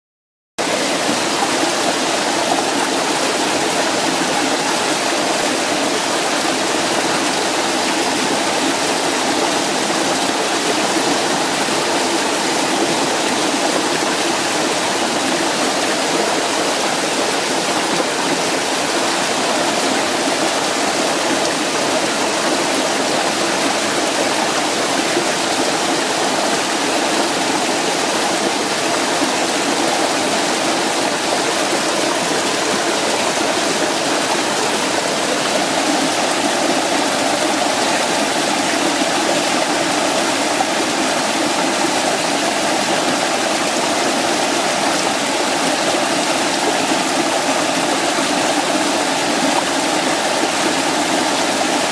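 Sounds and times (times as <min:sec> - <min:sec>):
stream rushing over rocks: 0:00.6 - 0:51.9.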